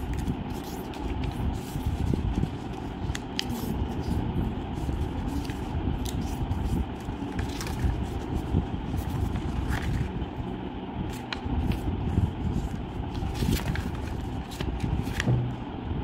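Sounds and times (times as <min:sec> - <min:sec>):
paper being folded and creased: 0:00.0 - 0:10.4, 0:11.0 - 0:15.6
steady low rumble: 0:00.0 - 0:16.0.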